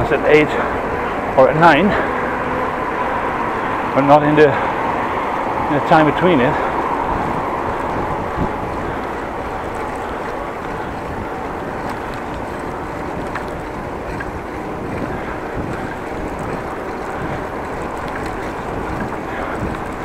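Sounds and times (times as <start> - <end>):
bicycle tyre and road noise: 0.0 - 20.0
wind on microphone: 0.0 - 20.0.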